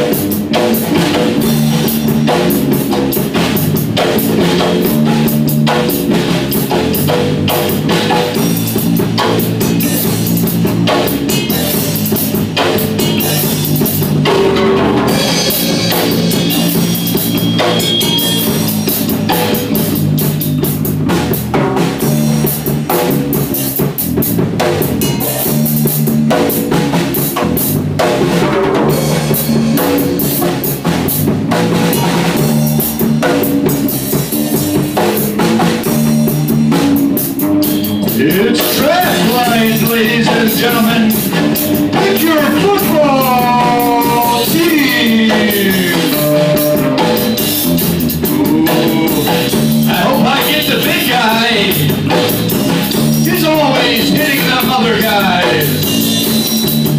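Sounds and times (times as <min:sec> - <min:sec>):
drum kit steady beat: 0:00.0 - 0:56.9
electric bass guitar riff: 0:00.0 - 0:56.9.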